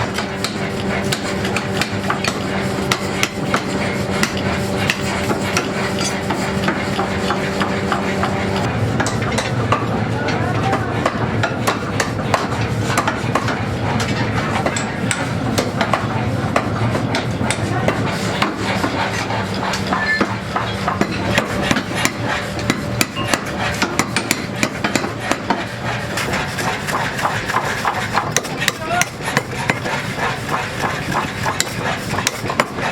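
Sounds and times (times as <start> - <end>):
hammer striking metal: 0.0 - 9.9, 11.0 - 32.8
low machine hum: 0.0 - 32.9.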